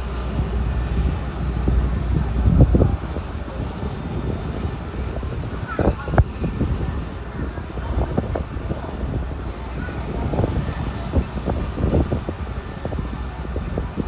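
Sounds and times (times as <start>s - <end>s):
helicopter engines and rotor: 0.0s - 14.0s.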